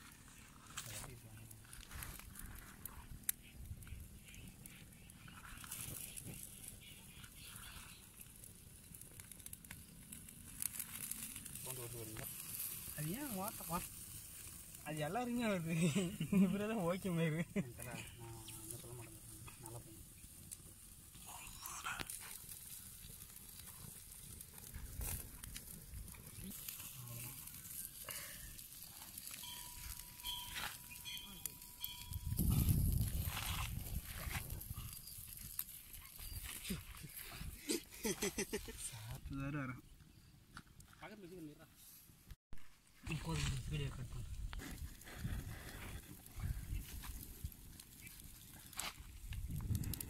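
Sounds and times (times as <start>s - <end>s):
fish sizzling on a grill: 0.0s - 39.2s, 43.2s - 50.0s
wood fire crackling: 0.0s - 50.0s
sharp pops from fire: 0.1s - 15.4s, 17.8s - 38.5s, 43.0s - 50.0s.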